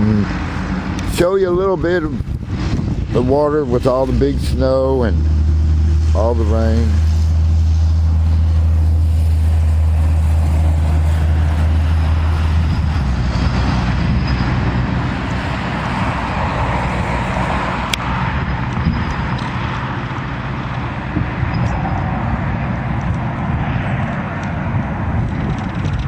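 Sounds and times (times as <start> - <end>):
rough rumbling noise: 0.0 - 26.0
vehicle engine humming: 0.0 - 26.0.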